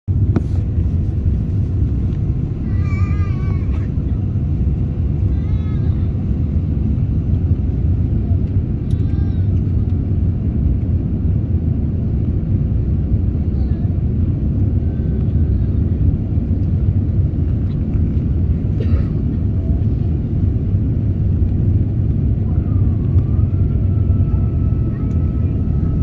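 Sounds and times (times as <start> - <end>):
airliner cabin rumble: 0.1 - 26.0.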